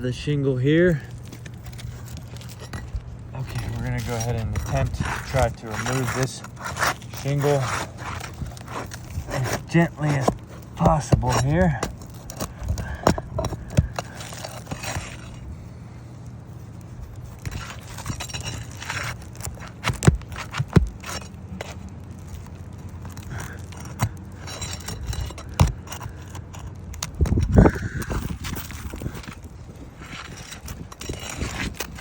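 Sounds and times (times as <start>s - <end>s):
tool scraping under shingles: 0.0s - 32.0s.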